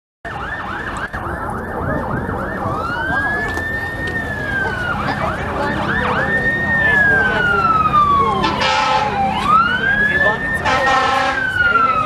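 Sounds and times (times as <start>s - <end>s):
fire truck siren: 0.2s - 12.0s
low rumble of truck: 0.3s - 12.0s.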